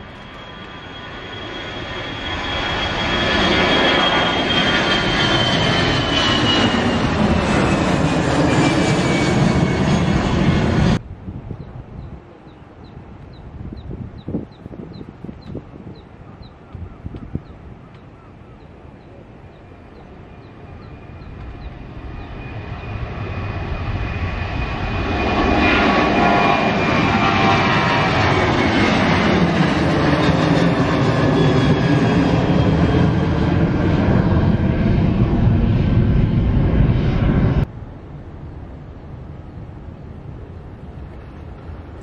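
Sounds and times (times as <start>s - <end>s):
jet engines roaring at takeoff: 0.0s - 42.0s.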